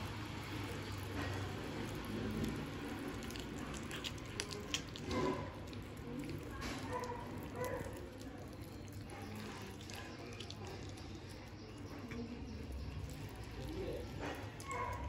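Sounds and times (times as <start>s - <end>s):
cat chewing: 0.8s - 15.0s.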